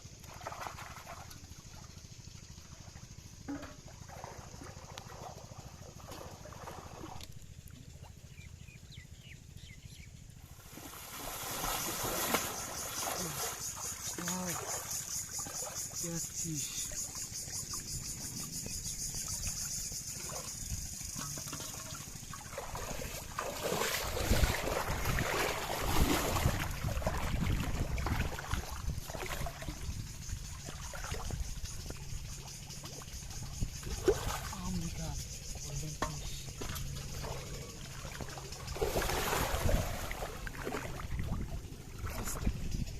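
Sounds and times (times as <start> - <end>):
water trickling and splashing: 0.0 - 8.4, 10.5 - 42.8
pulsing insect trill: 0.0 - 42.9.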